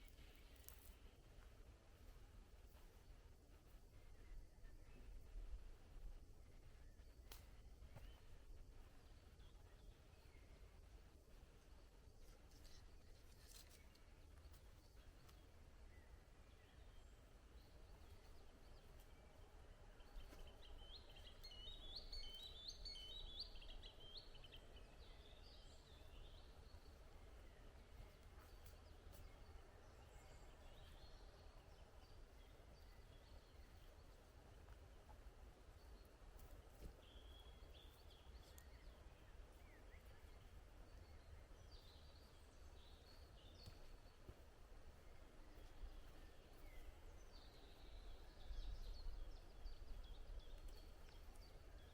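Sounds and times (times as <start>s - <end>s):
faint forest ambience: 0.0s - 51.9s
soft bird chirps: 0.0s - 51.9s.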